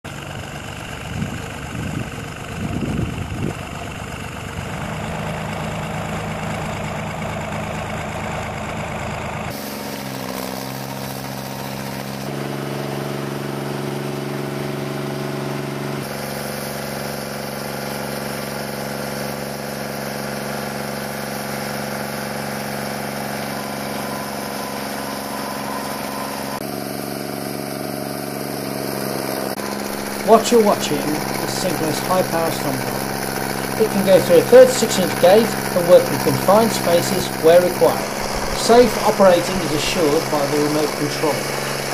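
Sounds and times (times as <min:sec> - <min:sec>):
stump grinder engine running: 0:00.1 - 0:41.9.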